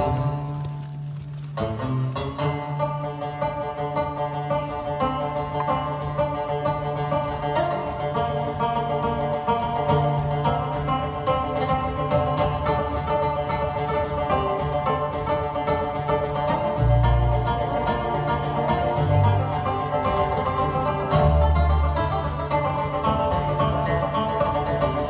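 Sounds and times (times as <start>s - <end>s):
acoustic and electric guitar: 0.0s - 25.0s
banjos picking rapid notes: 0.0s - 25.0s
bass guitar: 0.0s - 25.0s
drums: 0.0s - 25.0s.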